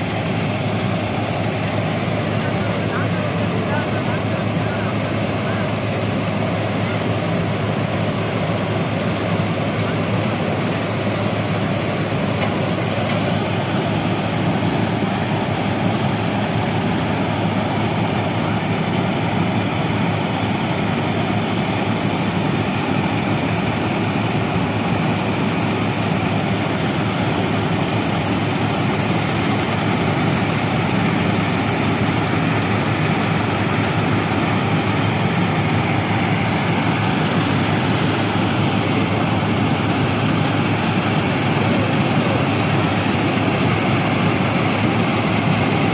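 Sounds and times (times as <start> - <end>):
heavy track machine working: 0.0 - 45.9.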